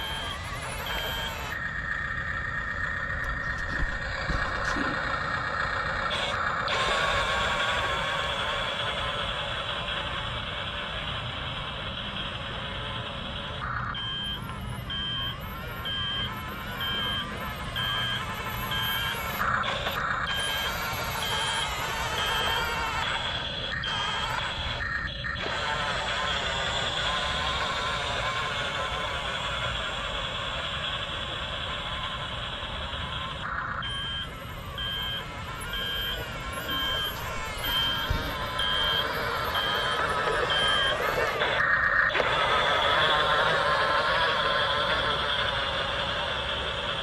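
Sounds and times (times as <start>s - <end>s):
reversing alarm beeping: 0.0s - 47.0s
toy bulldozer whirring: 0.0s - 47.0s.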